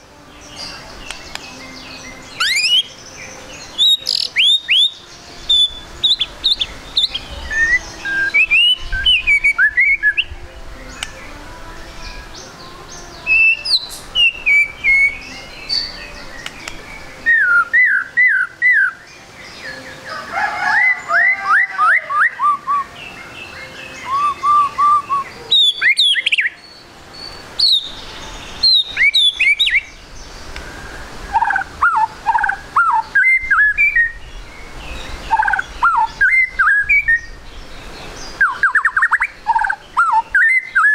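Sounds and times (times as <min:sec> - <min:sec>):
songbird whistling song: 0:00.0 - 0:40.9.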